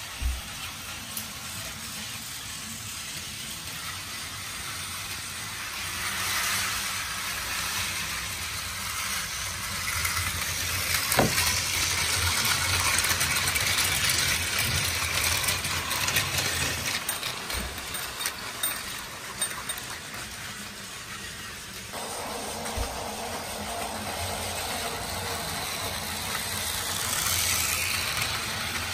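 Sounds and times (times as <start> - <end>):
toy train motors whirring: 0.0 - 28.9
wheels rattling on plastic track: 0.0 - 28.9.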